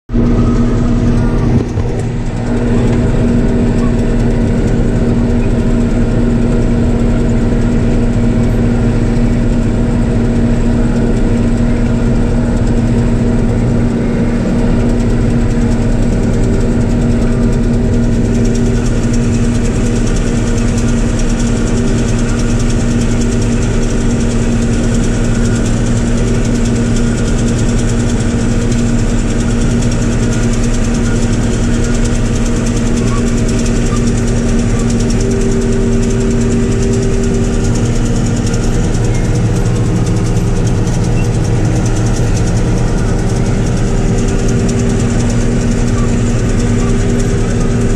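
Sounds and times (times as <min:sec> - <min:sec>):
combine harvester droning: 0:00.1 - 0:47.9.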